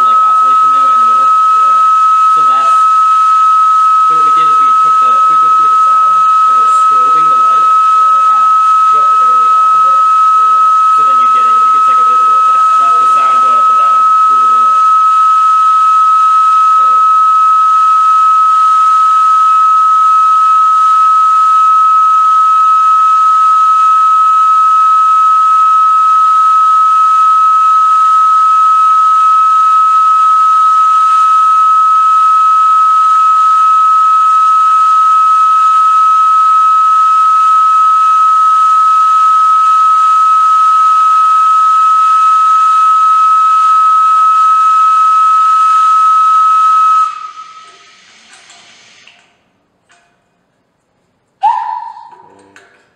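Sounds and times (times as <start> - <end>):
high whistle-like organ pipe tone: 0.0 - 49.0, 51.4 - 52.4.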